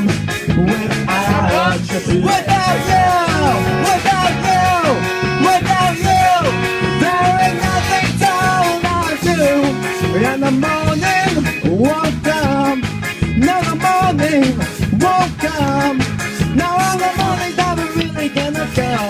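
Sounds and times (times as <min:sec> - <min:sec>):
live band playing upbeat song: 0:00.0 - 0:19.0.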